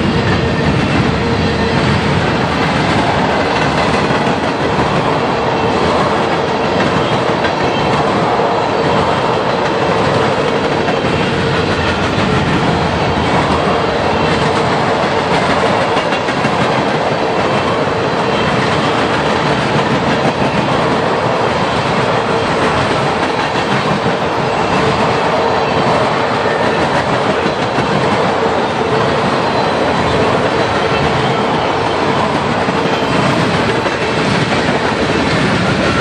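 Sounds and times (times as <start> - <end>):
train wheels on rails: 0.0 - 36.0.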